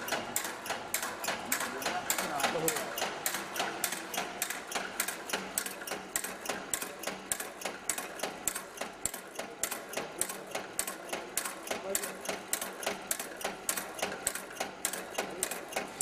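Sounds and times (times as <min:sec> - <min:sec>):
machine clicking rhythmically: 0:00.0 - 0:16.0.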